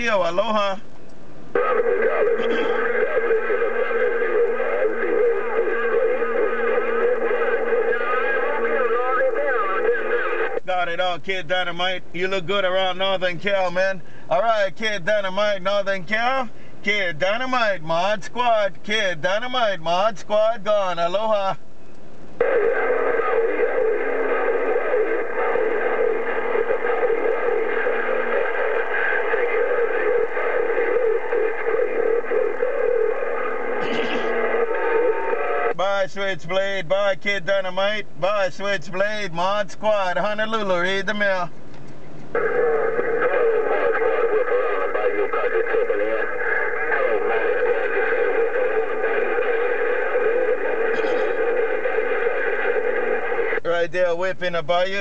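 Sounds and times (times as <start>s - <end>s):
garbled radio signals: 0.0s - 55.0s
radio static: 0.0s - 55.0s
steady radio tones: 0.0s - 55.0s.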